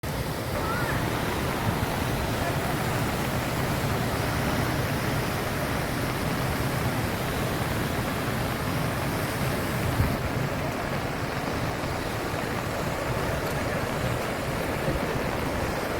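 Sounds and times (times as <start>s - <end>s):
flooded river rushing: 0.0s - 15.9s.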